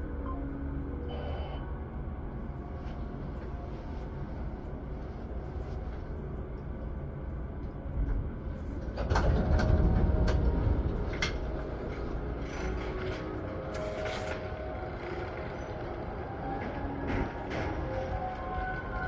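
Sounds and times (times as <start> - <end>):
train rumbling on rails: 2.2 - 19.0.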